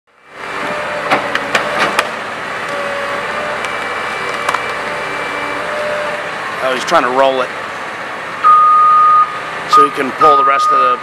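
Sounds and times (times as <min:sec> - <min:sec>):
excavator engine running: 0:00.1 - 0:11.0.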